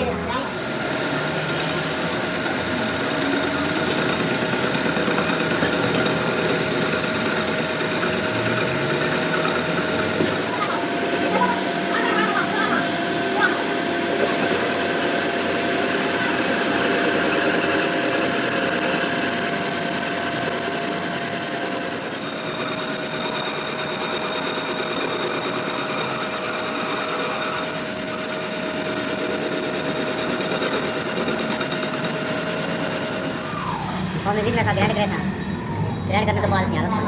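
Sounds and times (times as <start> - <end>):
high rapid pulsing whir: 0.0 - 36.0
workshop machine humming: 0.0 - 36.2.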